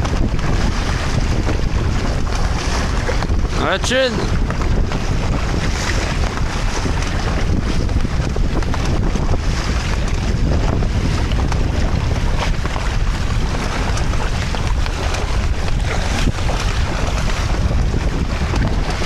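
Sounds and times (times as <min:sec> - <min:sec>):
water rushing past hulls: 0:00.0 - 0:19.0
wind buffeting microphone: 0:00.0 - 0:19.0.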